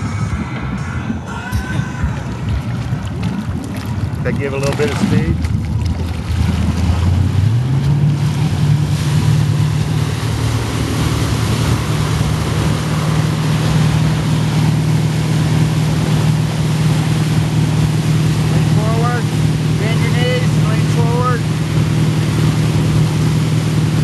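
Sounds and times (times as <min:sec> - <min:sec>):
boat engine speeding up: 0:00.0 - 0:24.0
churning wake rushing: 0:00.0 - 0:24.0
wind on microphone: 0:00.0 - 0:24.0.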